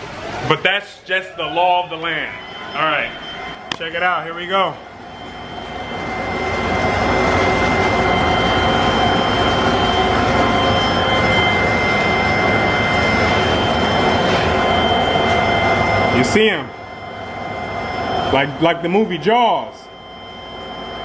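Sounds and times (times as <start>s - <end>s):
blower rushing: 0.0s - 21.0s
high whining tones: 0.0s - 21.0s.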